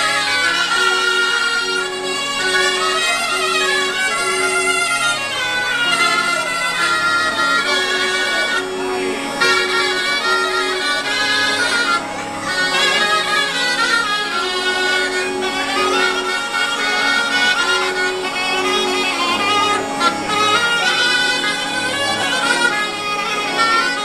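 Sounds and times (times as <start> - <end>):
bagpipe drones: 0.0 - 24.0
fast ornamented shawm melody: 0.0 - 24.0.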